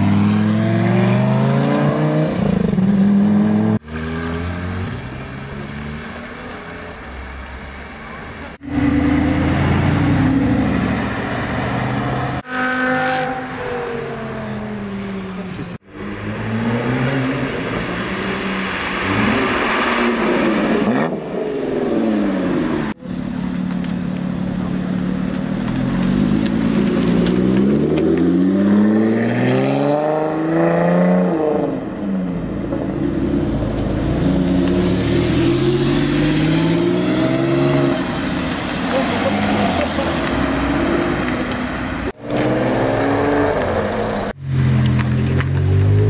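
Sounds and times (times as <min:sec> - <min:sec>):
sports car engines accelerating: 0:00.0 - 0:46.0.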